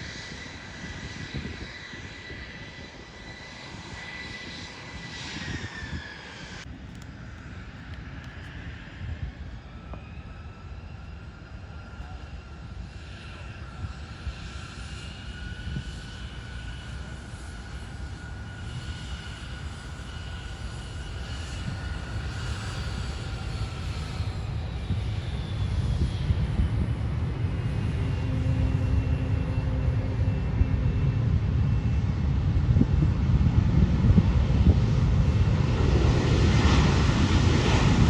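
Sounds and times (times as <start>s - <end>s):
airliner engines whining: 0.0s - 38.0s.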